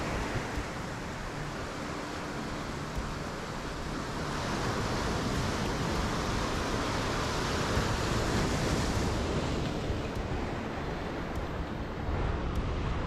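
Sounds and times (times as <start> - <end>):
surf rushing over rocky shore: 0.0 - 13.0
wind buffeting microphone: 0.0 - 13.0.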